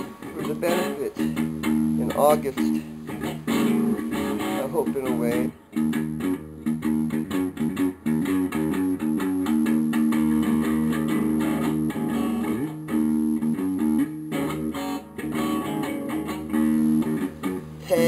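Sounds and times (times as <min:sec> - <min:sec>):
guitar music: 0:00.0 - 0:18.0.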